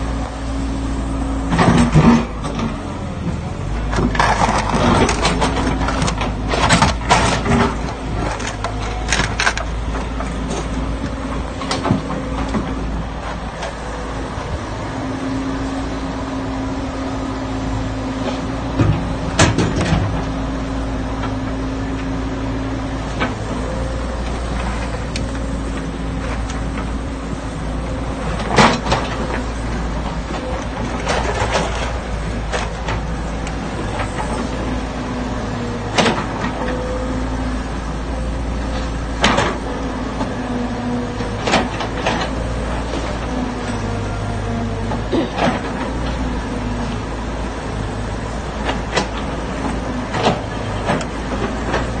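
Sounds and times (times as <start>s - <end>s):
diesel excavator running: 0.0s - 52.0s.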